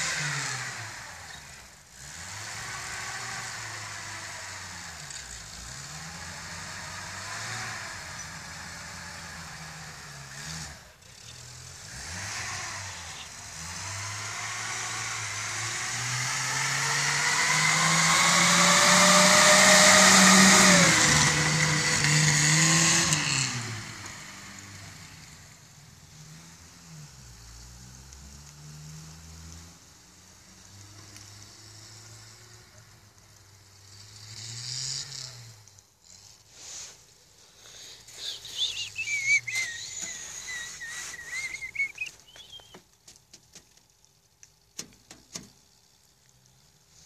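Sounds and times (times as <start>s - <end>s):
car engine revving: 0.0s - 42.8s.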